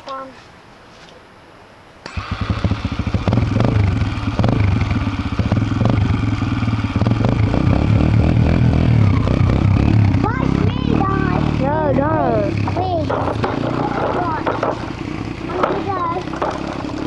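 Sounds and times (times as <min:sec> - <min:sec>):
dirt bike engine running: 0:02.1 - 0:17.0.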